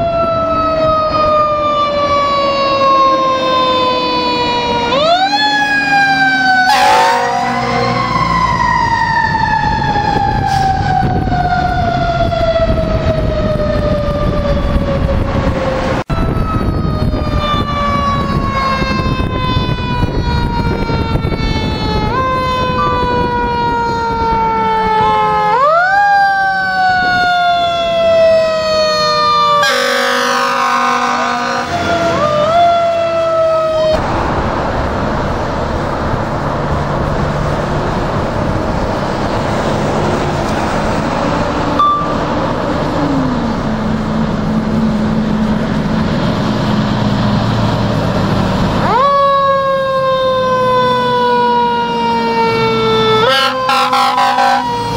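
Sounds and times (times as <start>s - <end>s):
truck engine rumbling: 0.0s - 54.9s.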